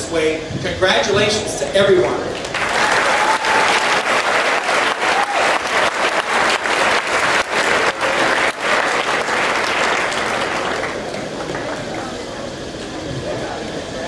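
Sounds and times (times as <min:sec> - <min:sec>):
crowd applauding: 0:02.3 - 0:13.9.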